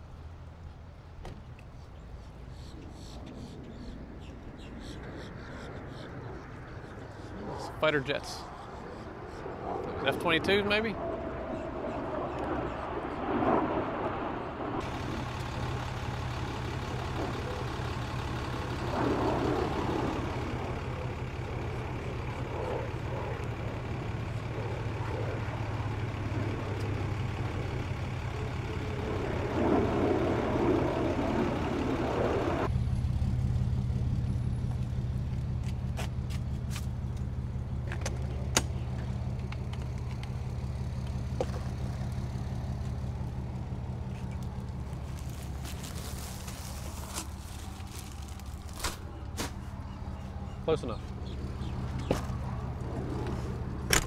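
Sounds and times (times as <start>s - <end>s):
fighter jets flying overhead: 0.0s - 54.0s
low engine hum: 0.0s - 54.0s.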